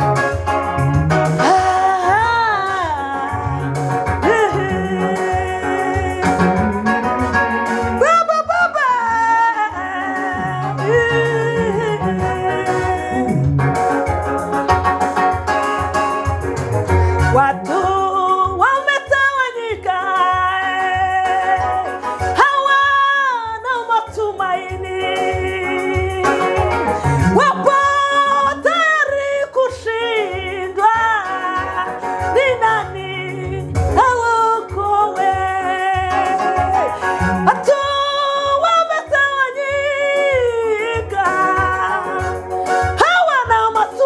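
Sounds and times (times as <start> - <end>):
backing music with steady beat: 0.0 - 44.0
woman singing: 1.3 - 13.5, 17.3 - 44.0.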